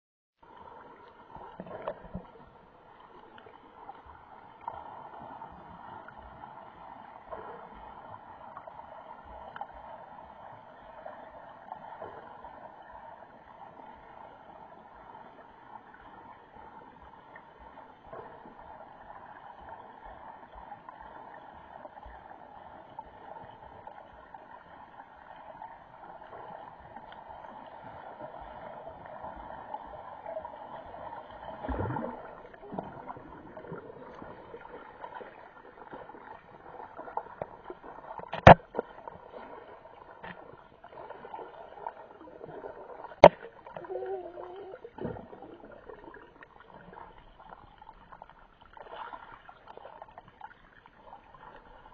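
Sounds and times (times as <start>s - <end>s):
muffled underwater water noise: 0.4s - 51.9s.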